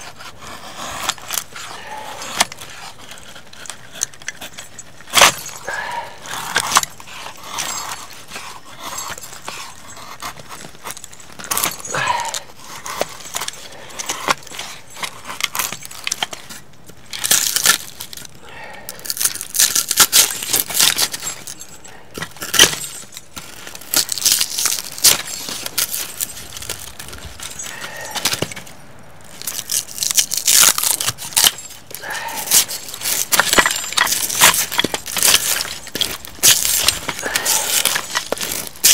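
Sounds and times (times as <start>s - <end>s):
knife shaving and scraping wood: 0.0s - 38.9s.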